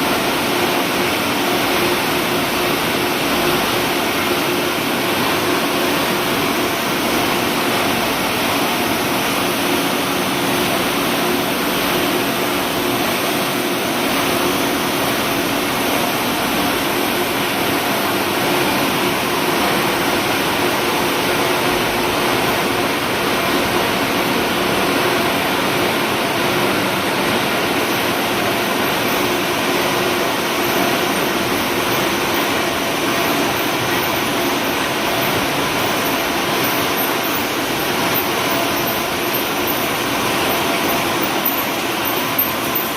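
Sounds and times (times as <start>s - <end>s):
machinery running steadily: 0.0s - 42.9s.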